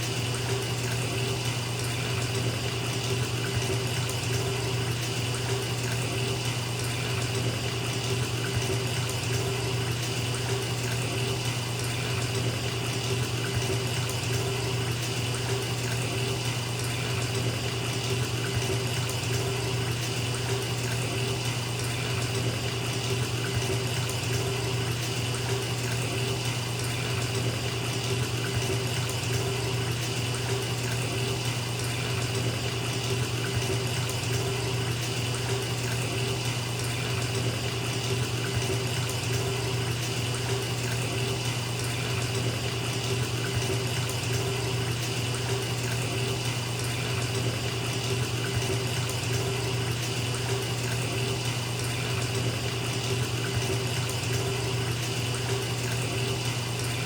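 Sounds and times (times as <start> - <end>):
water pouring into bathtub: 0.0 - 57.0.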